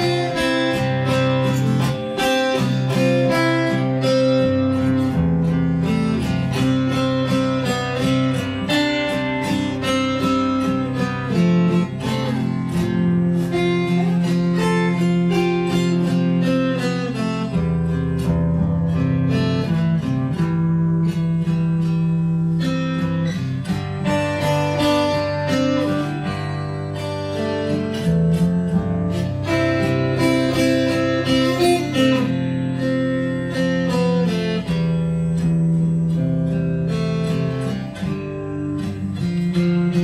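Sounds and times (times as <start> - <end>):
fingerstyle acoustic guitar: 0.0 - 40.0.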